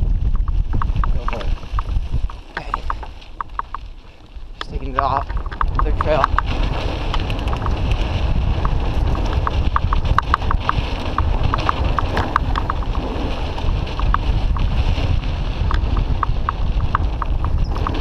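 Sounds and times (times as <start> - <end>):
rumble of tyres on trail: 0.0 - 18.0
wind buffeting microphone: 0.0 - 18.0.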